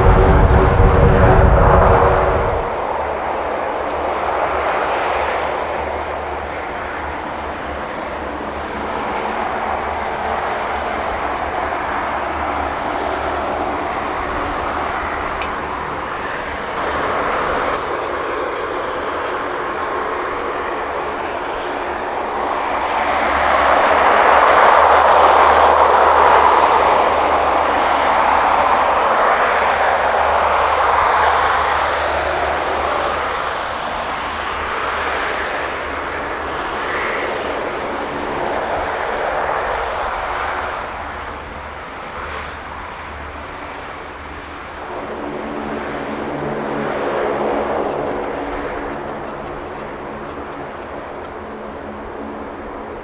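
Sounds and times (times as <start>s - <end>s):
aircraft engines rushing past: 0.0s - 53.0s.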